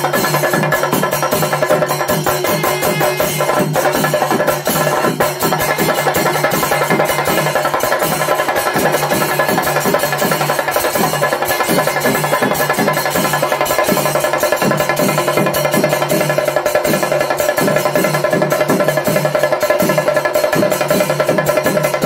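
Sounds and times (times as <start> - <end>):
drum ensemble beating fast: 0.0 - 22.0.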